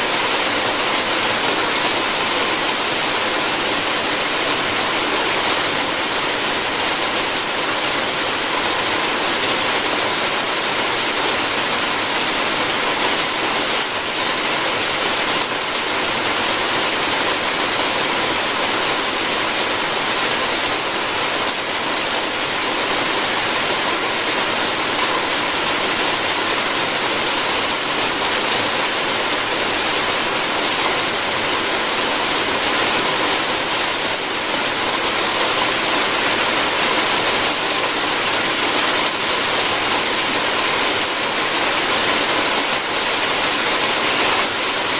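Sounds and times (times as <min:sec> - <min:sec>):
rain falling on a roof: 0:00.0 - 0:44.9.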